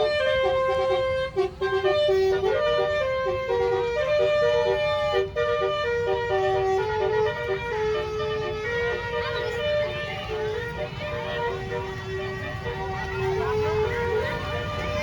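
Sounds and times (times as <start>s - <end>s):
musical air horn playing tune: 0.0s - 15.0s.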